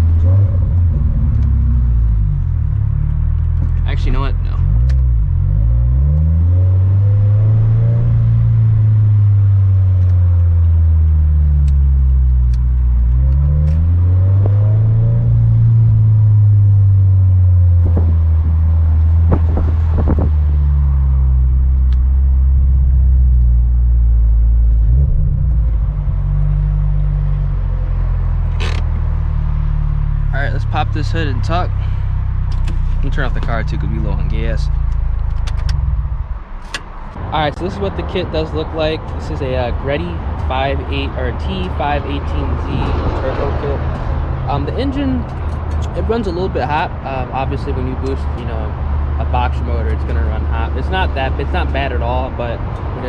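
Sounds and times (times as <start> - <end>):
turbocharged car engine low revs: 0.0 - 36.3, 37.2 - 53.0.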